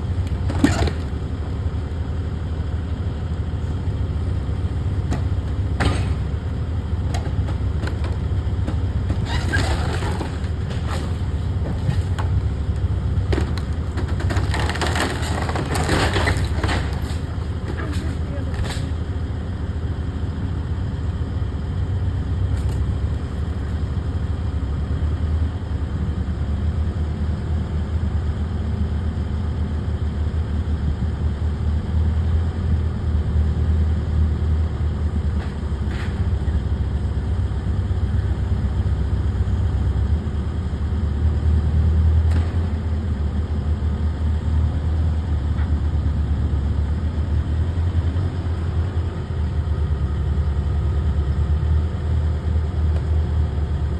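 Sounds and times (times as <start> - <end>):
engine rumbling: 0.0 - 53.9.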